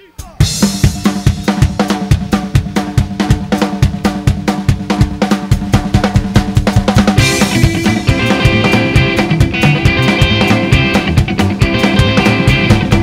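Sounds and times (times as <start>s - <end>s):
drum kit playing fast beat: 0.0s - 13.0s.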